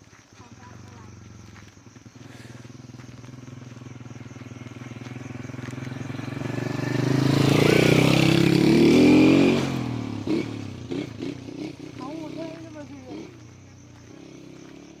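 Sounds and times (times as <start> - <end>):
vehicle engine passing by: 0.7 - 15.0.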